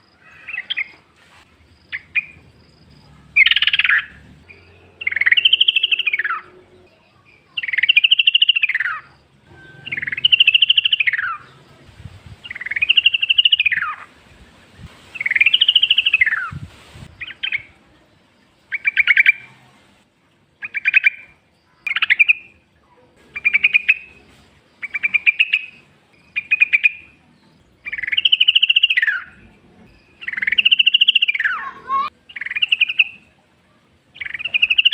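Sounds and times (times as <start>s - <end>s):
bird singing bubbly phrases: 3.3s - 9.2s, 9.8s - 14.1s, 14.8s - 19.6s, 20.4s - 24.2s, 24.8s - 34.9s.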